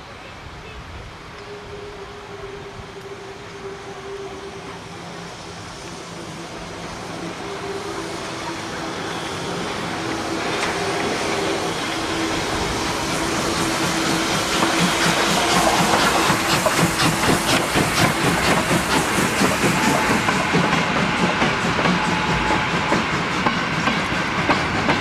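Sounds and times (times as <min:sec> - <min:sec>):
steam locomotive hauling train: 0:00.0 - 0:25.0.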